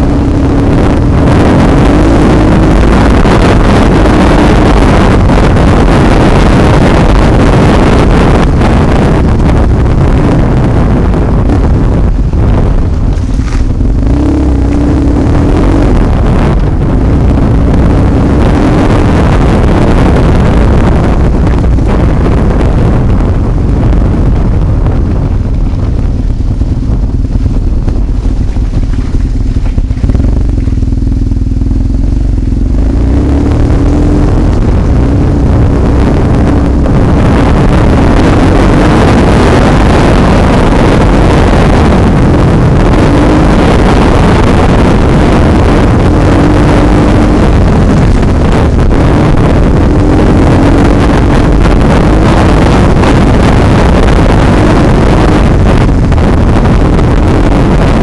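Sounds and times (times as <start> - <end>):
motorcycle engine revving: 0.0 - 58.0
wind buffeting on microphone: 0.0 - 58.0.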